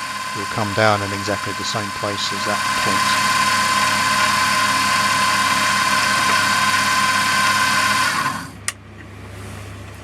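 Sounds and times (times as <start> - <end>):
milling machine motor whine: 0.0 - 8.6.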